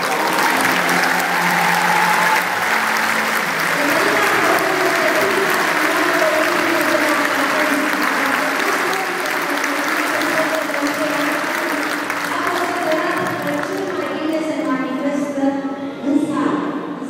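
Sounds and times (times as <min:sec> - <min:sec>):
crowd applauding: 0:00.0 - 0:14.8.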